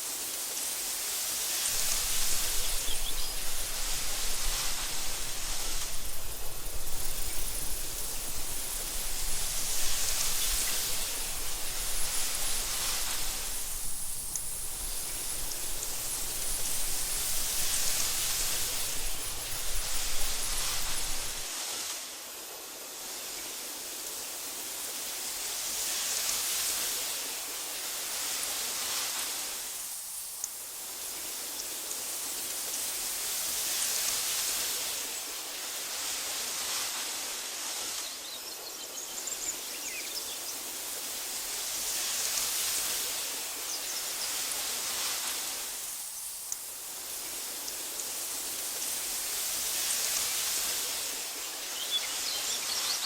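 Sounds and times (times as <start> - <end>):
wind through tall grass: 0.0 - 53.0.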